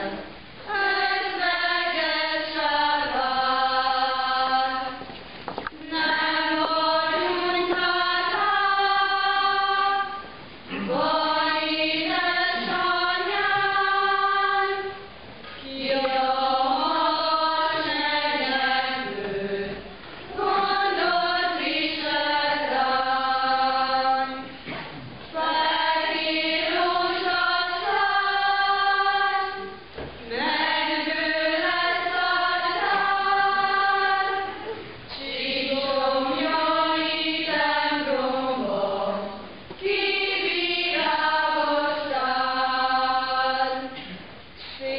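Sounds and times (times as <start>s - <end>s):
congregation singing unaccompanied: 0.0s - 44.9s.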